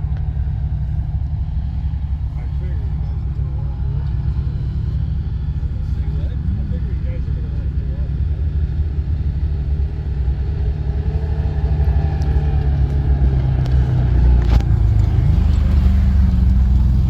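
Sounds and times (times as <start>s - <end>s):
atv engine rumbling: 0.0s - 17.0s.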